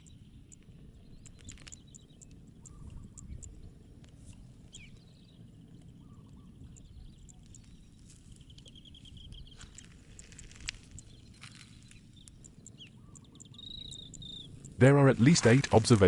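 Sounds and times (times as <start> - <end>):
birds chirping: 0.0 - 3.9, 4.6 - 16.0
wind rumble on microphone: 0.0 - 16.0.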